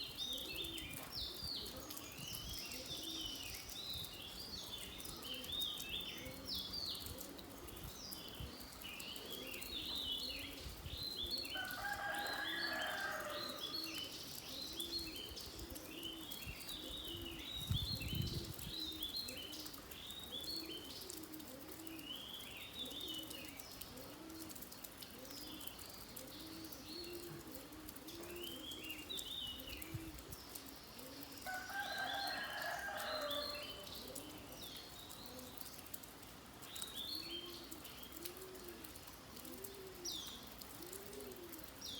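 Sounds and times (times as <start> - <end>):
small birds chirping: 0.0 - 12.2, 12.8 - 41.9
light rain pattering: 0.0 - 41.9.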